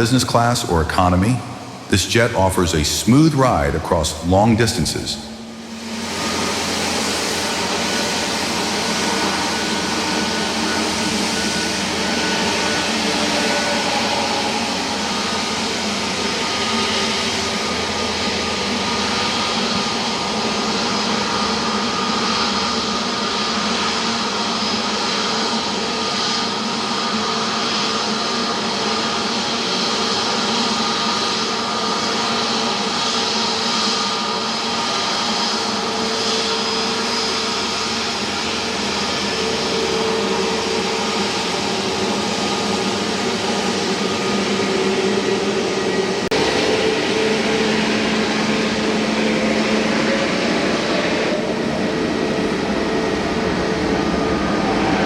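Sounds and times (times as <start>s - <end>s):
jet engines whining and rushing: 0.0s - 55.0s.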